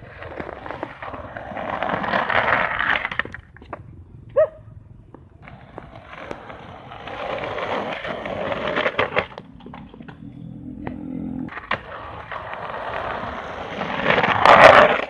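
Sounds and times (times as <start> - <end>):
skateboard clacks: 0.0 - 3.9, 5.1 - 10.2, 10.8 - 15.0
skateboard wheels rolling on asphalt: 0.0 - 15.0.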